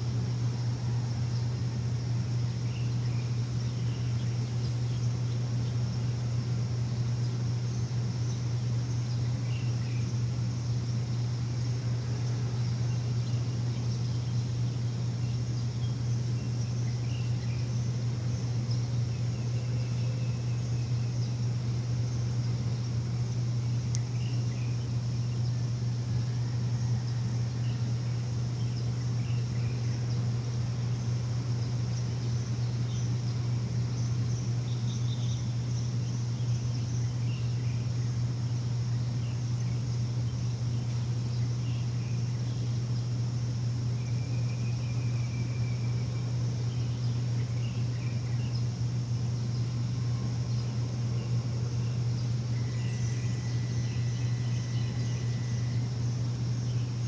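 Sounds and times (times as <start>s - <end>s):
birds chirping: 0.0s - 57.0s
low machine hum: 0.0s - 57.0s.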